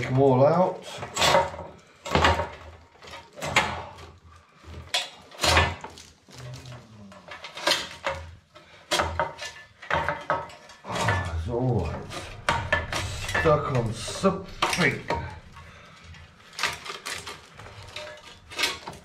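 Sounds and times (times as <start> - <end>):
cables rustling: 0.0 - 19.0
knocks and clatter: 1.0 - 6.1, 7.2 - 19.0.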